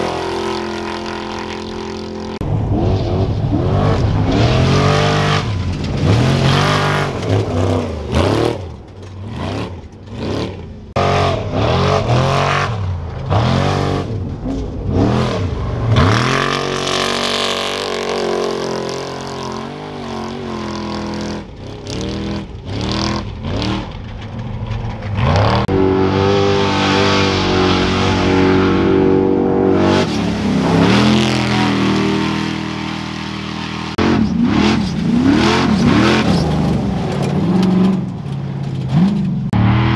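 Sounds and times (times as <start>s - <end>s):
race truck engines revving: 0.0s - 39.9s.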